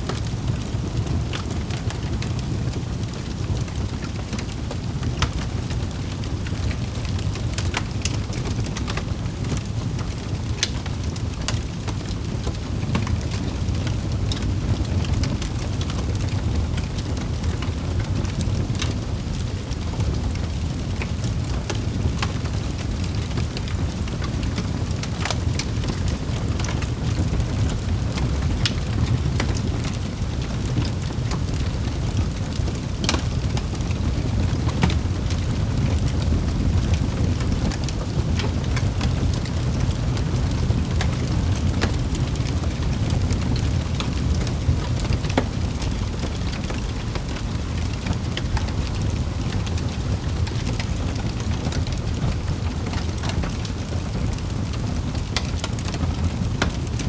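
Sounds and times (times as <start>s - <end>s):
fire crackling and popping: 0.0s - 57.0s
fire low rumble: 0.0s - 57.0s.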